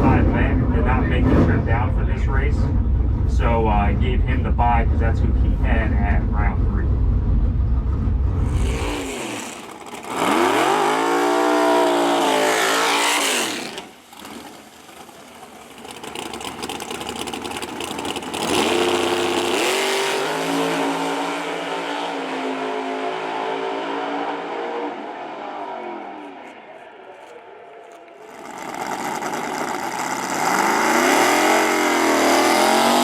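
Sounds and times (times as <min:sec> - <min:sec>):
race car engine revving: 0:00.0 - 0:26.7, 0:27.8 - 0:33.0.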